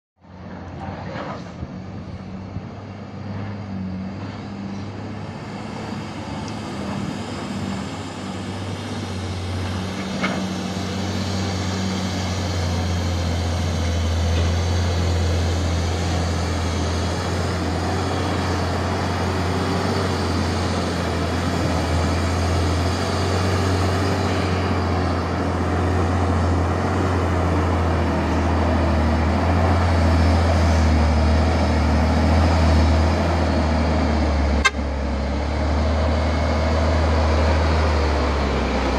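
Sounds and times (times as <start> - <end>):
truck diesel engine droning: 0.2 - 38.9.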